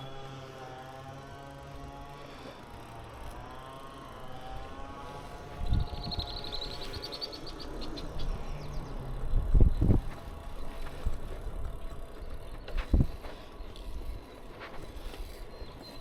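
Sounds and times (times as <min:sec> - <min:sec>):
rapid high bicycle ticking: 0:00.0 - 0:16.0.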